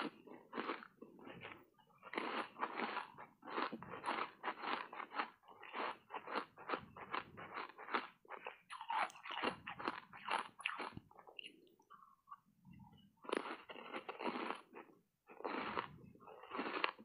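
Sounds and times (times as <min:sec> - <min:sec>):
crunchy ice being chewed: 0:00.0 - 0:12.2, 0:13.2 - 0:17.0.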